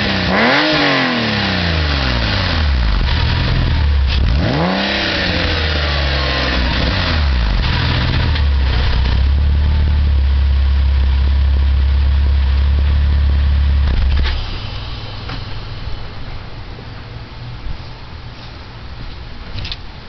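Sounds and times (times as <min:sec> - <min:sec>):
car engine throttle blips: 0:00.0 - 0:17.2
car engine idling: 0:01.4 - 0:19.5.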